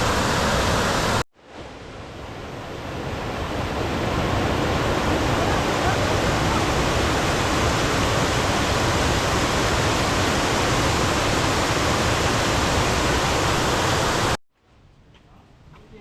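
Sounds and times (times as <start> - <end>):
waterfall rushing: 0.0 - 1.2, 2.6 - 14.4.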